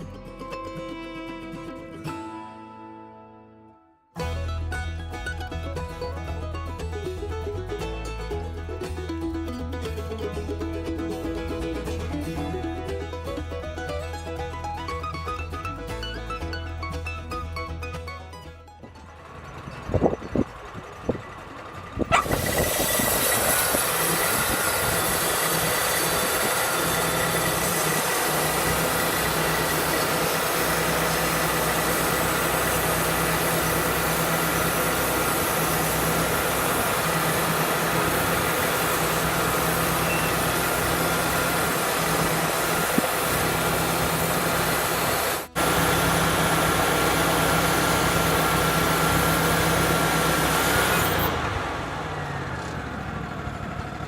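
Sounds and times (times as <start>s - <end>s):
sawmill engine running: 4.2s - 54.0s.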